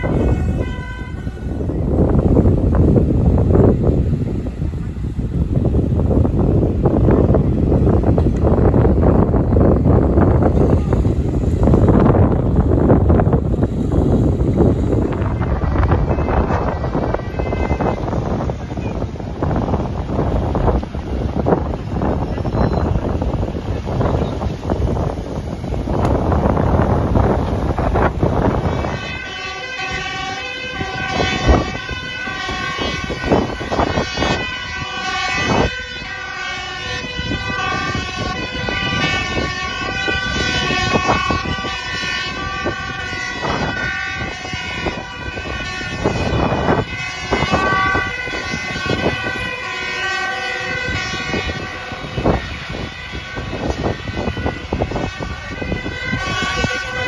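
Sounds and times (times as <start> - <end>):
fire engine sirens: 0.0 - 57.0
passing traffic: 0.0 - 57.0
wind buffeting microphone: 0.0 - 57.0.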